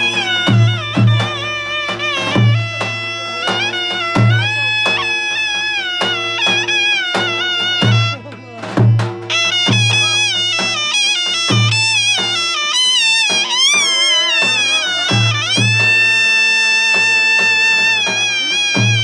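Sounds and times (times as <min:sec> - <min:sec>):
deep drum beats: 0:00.0 - 0:19.0
zurna folk melody: 0:00.0 - 0:19.0.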